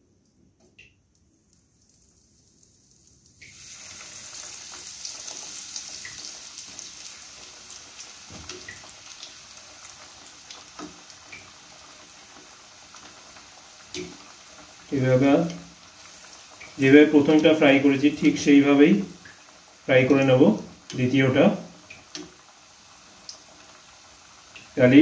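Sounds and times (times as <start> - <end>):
oil sizzling while deep-frying: 1.1 - 25.0.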